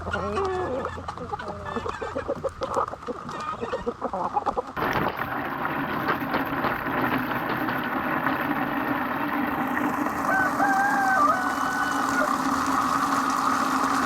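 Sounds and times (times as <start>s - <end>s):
chickens clucking: 0.0s - 4.8s, 6.0s - 13.6s.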